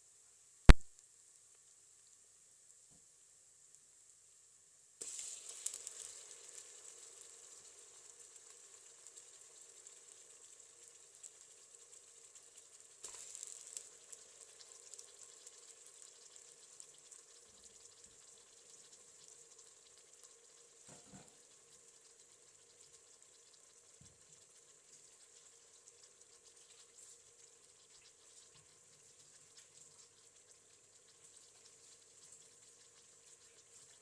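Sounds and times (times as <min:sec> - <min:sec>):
food sizzling in hot oil: 0:02.0 - 0:34.0.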